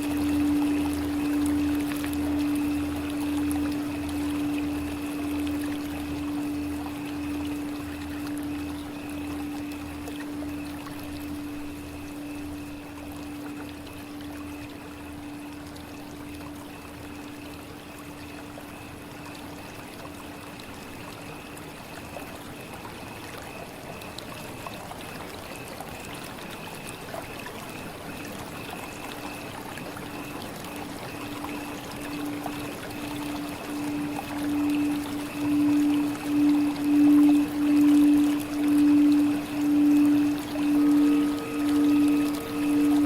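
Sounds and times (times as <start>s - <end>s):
faint steady tones: 0.0s - 43.0s
water trickling and pouring: 0.0s - 43.0s.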